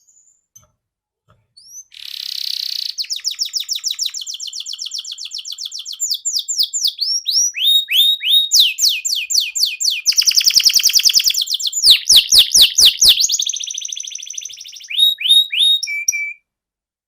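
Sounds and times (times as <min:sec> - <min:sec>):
canary singing trills: 0:01.6 - 0:16.4.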